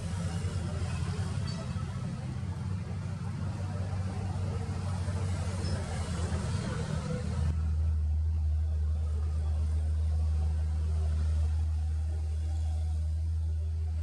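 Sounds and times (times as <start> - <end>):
ship diesel engines droning: 0.0 - 14.0.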